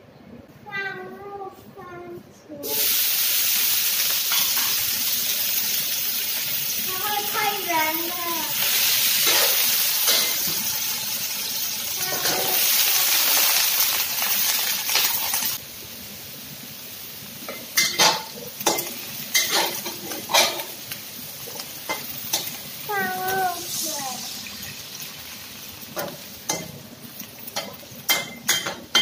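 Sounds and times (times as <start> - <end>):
vegetables sizzling in a wok: 2.6 - 29.0.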